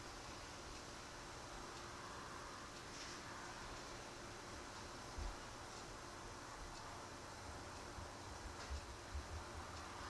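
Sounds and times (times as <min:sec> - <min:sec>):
room tone hiss: 0:00.0 - 0:10.0.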